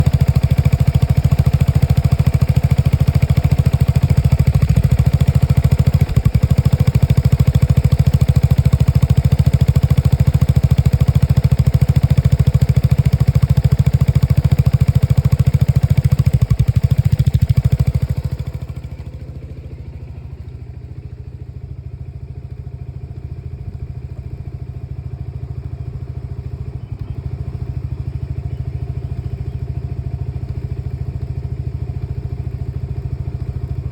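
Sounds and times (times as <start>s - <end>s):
scooter engine running: 0.0s - 33.9s.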